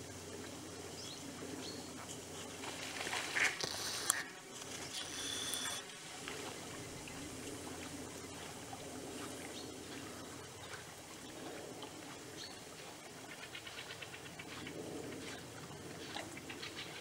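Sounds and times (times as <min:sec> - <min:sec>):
faint water and air wash: 0:00.0 - 0:17.0.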